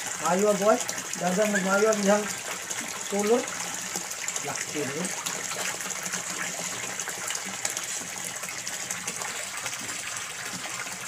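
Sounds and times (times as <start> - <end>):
water pouring into pond: 0.0 - 11.0.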